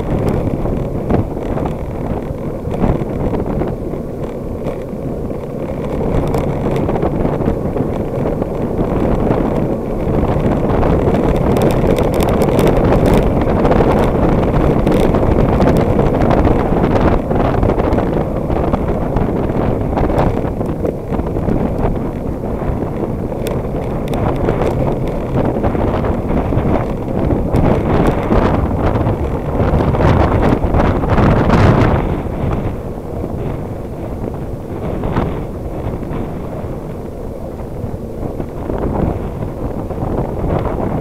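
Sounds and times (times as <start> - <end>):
tyres rumbling on road: 0.0 - 41.0
wind buffeting microphone: 0.0 - 41.0.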